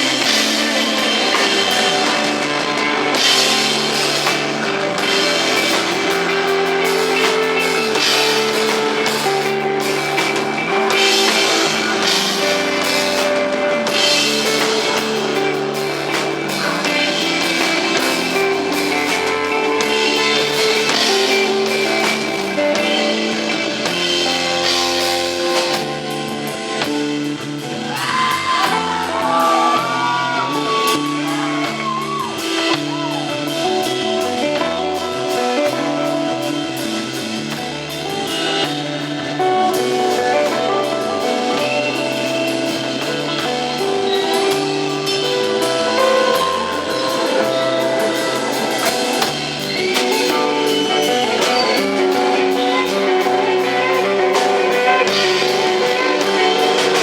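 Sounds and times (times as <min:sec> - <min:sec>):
bass line: 0:00.0 - 0:57.0
drum kit: 0:00.0 - 0:57.0
electric guitar melody: 0:00.0 - 0:57.0.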